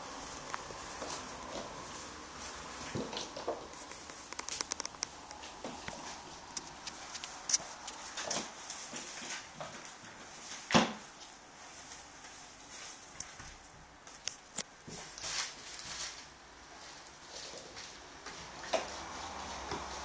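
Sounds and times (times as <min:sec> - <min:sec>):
curtain fabric rustling: 0:00.0 - 0:20.0.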